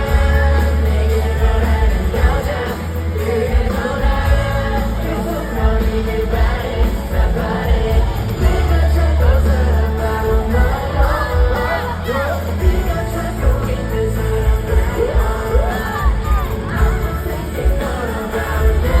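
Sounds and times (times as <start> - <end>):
person singing: 0.0 - 19.0
pop backing track with heavy bass: 0.0 - 19.0.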